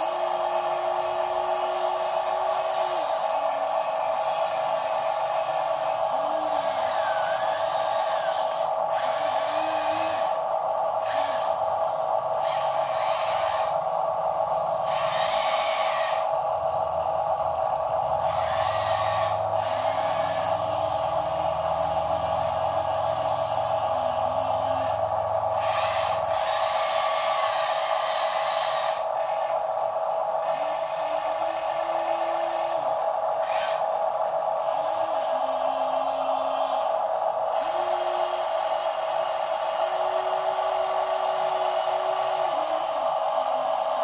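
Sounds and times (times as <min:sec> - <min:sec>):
toy electric motors whining: 0:00.0 - 0:44.0.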